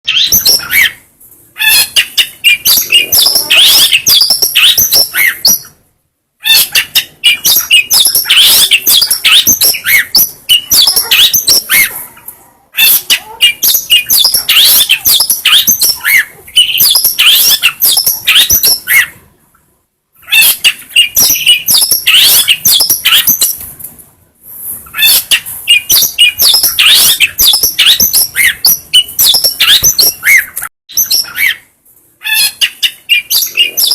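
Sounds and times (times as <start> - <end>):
bird singing rapid chirps: 0.1 - 1.0, 1.6 - 5.8, 6.4 - 12.0, 12.8 - 19.2, 20.2 - 23.6, 24.9 - 33.9.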